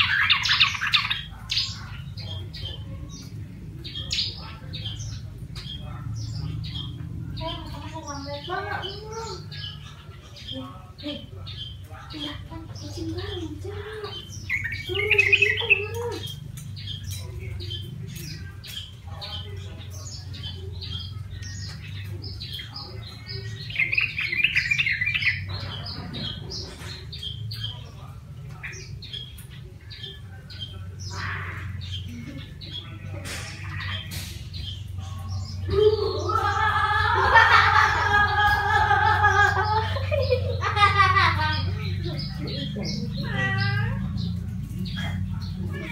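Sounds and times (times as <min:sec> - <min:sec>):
bird chirping and chattering: 0:00.0 - 0:45.9.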